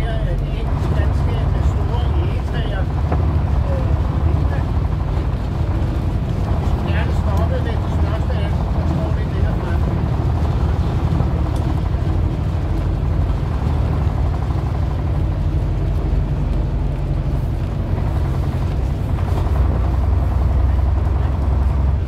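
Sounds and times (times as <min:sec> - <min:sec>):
bus engine running: 0:00.0 - 0:22.0
road and wind noise: 0:00.0 - 0:22.0.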